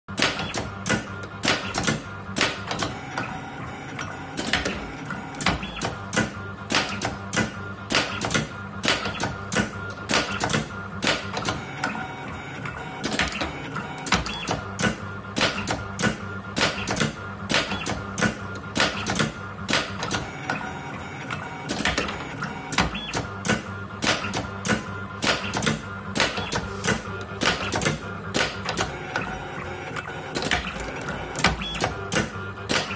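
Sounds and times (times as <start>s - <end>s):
steady motor hum: 0.1s - 32.9s.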